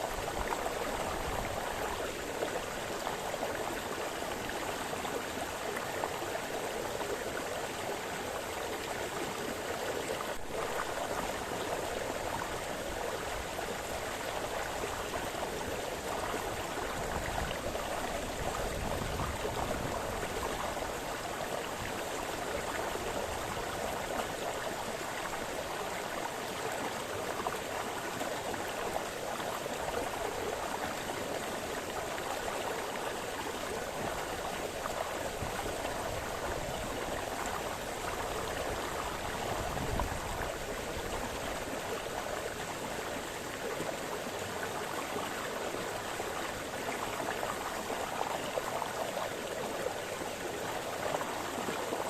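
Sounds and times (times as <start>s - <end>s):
brook burbling over stones: 0.0s - 52.0s.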